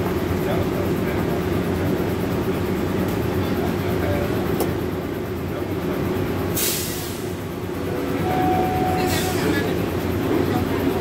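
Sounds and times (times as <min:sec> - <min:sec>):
faint passenger voices: 0:00.0 - 0:11.0
train car humming: 0:00.0 - 0:11.0.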